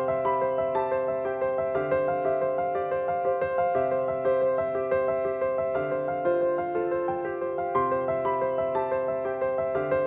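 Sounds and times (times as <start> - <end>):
piano playing run of notes: 0.0 - 10.0.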